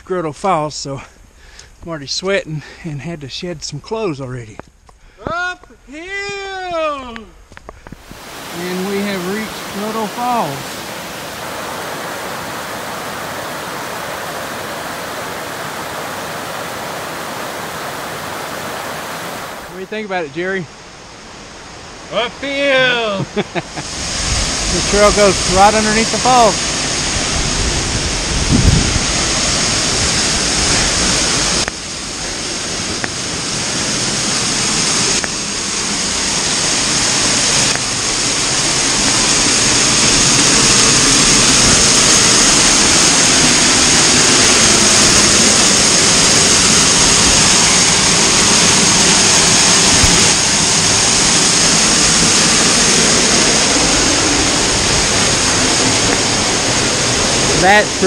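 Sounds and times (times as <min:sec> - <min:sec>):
waterfall rushing onto rock: 0:07.8 - 0:19.9, 0:22.6 - 0:58.0.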